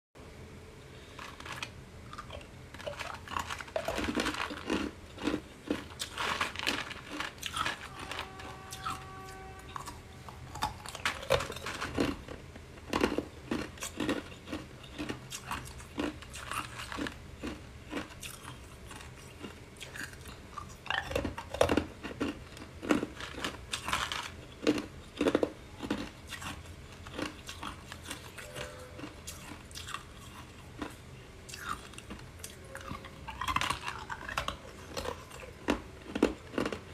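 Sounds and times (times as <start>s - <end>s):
ice cubes crunching: 1.0s - 36.9s.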